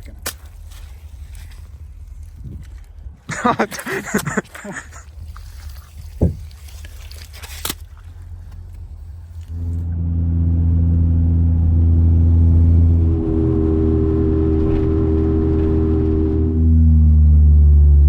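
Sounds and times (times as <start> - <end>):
loud steady low droning tone: 0.0 - 18.0
quiet low rumble: 0.0 - 18.0.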